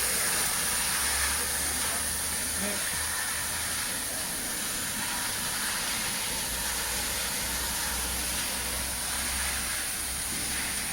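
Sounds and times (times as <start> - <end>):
high-pressure water spray hiss: 0.0 - 10.9
washing machine low hum: 0.0 - 10.9.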